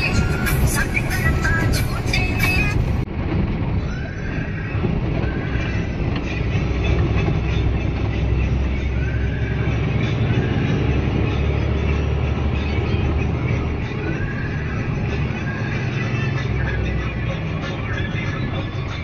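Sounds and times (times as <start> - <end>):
bus engine drone: 0.0 - 19.0
road noise: 0.0 - 19.0.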